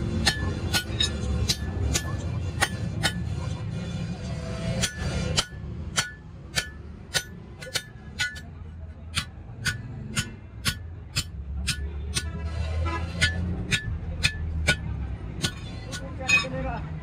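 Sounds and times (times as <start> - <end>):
hammer striking metal on anvil: 0.0 - 3.6, 4.6 - 16.6.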